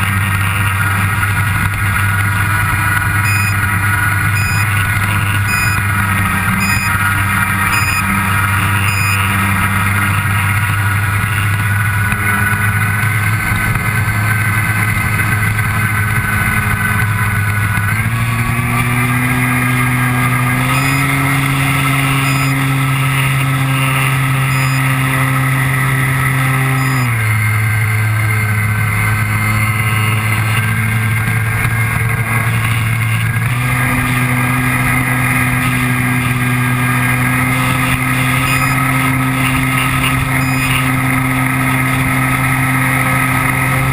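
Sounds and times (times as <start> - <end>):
model plane motor and propeller: 0.0 - 43.9.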